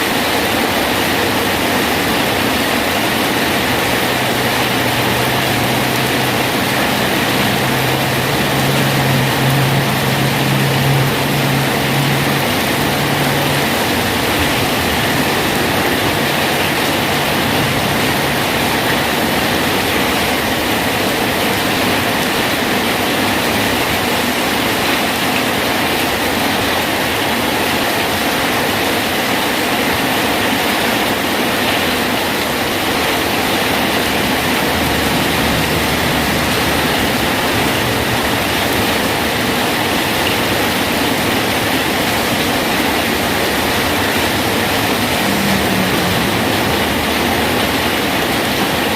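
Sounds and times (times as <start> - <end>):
rain hissing on a bridge: 0.0 - 48.9.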